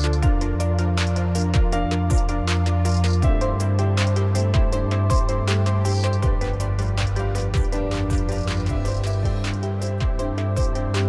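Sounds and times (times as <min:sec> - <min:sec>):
background music with ticking beat: 0:00.0 - 0:11.0.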